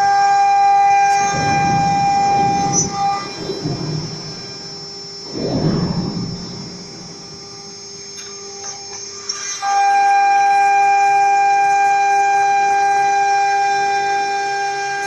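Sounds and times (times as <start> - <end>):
router spindle high whine: 0.0 - 15.0.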